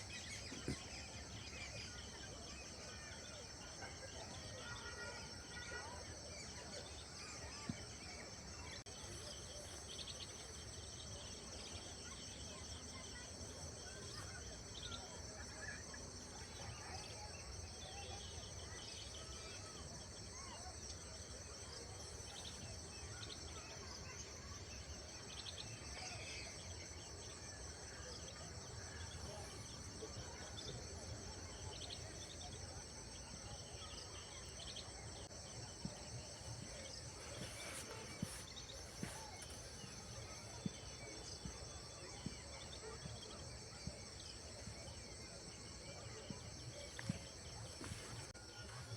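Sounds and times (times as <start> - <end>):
faint bird chirps: 0.0 - 48.9.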